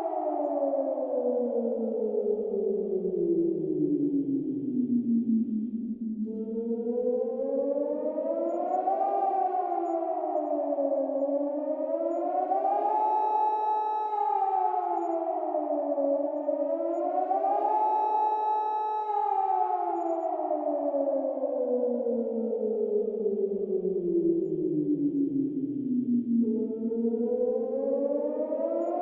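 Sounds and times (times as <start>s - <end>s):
warning siren wailing: 0.0s - 29.0s.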